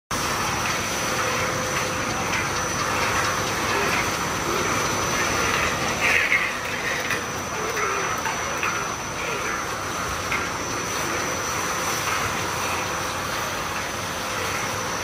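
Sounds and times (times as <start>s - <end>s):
metallic machine noise: 0.1s - 15.0s
thin high whine: 0.1s - 15.0s.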